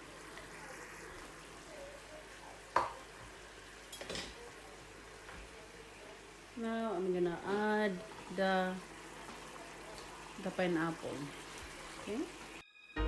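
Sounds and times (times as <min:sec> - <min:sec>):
chicken sizzling in sauce: 0:00.0 - 0:12.6.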